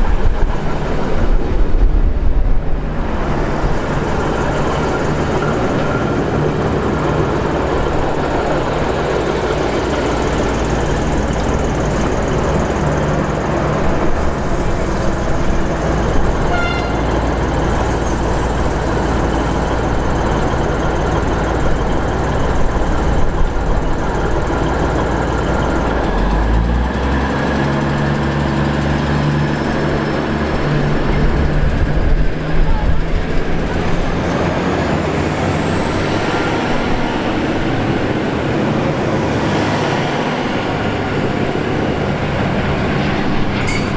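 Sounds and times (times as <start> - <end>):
diesel train rumbling: 0.0 - 43.9.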